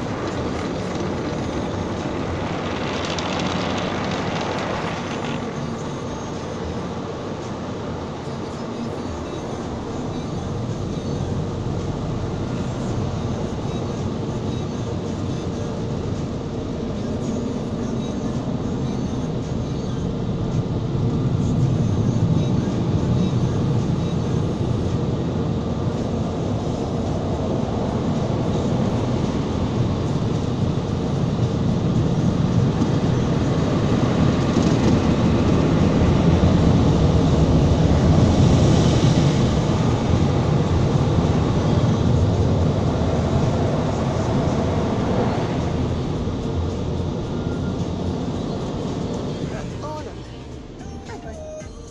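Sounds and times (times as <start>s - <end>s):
car wash water spray and machinery: 0.0s - 51.9s.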